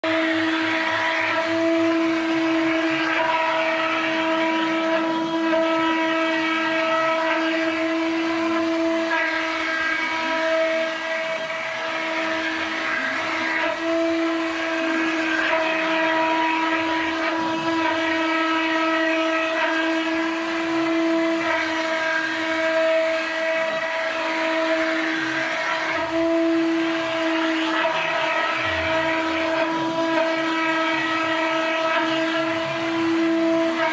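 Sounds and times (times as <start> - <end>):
cutter cutting wood: 0.0 - 33.9
router spindle whine: 0.0 - 33.9.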